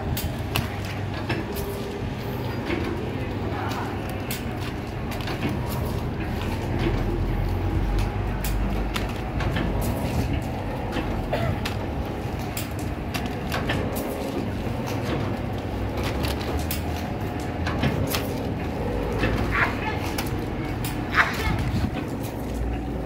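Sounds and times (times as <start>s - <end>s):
machine clicks and clacks: 0.0s - 23.0s
machine low rumble: 0.0s - 23.0s.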